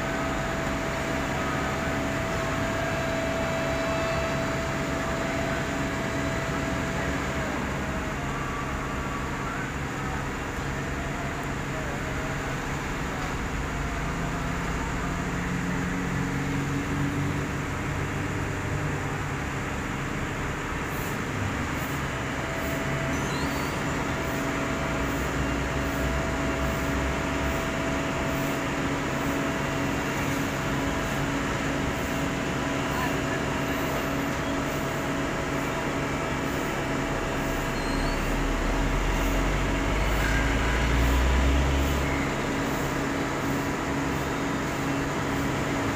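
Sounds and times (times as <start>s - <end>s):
heavy diesel engines humming: 0.0s - 45.9s.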